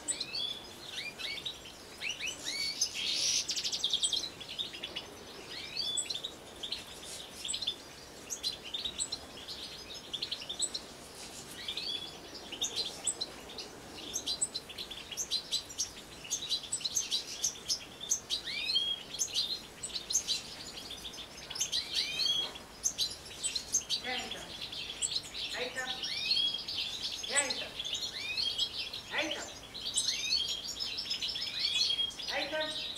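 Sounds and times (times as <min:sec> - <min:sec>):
flock of finches twittering: 0:00.0 - 0:32.9.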